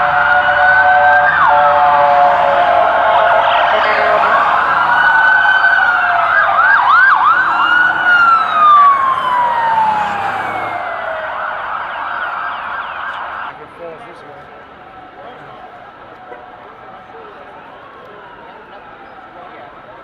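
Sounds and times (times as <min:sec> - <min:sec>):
emergency vehicle sirens wailing: 0:00.0 - 0:20.0.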